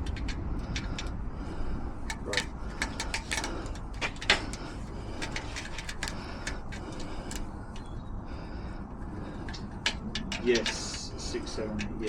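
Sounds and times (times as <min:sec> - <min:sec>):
lock-picking tools clicking: 0:00.0 - 0:01.2, 0:02.0 - 0:08.0, 0:09.2 - 0:12.0
steady low rumble: 0:00.0 - 0:12.0.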